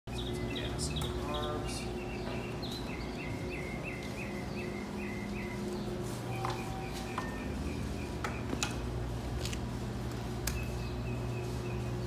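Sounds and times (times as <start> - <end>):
small birds chirping: 0.1 - 9.1, 10.2 - 12.0
low background hum: 0.1 - 12.0.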